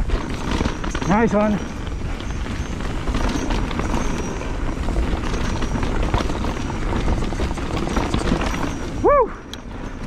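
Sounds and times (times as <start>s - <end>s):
bike rattling and knocking: 0.0s - 10.0s
bike tyres rumbling on dirt: 0.0s - 10.0s.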